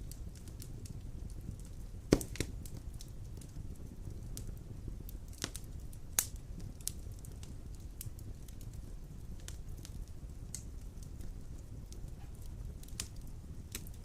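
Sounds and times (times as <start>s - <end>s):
fire crackles and pops: 0.0s - 14.0s
rumble of flames: 0.0s - 14.0s.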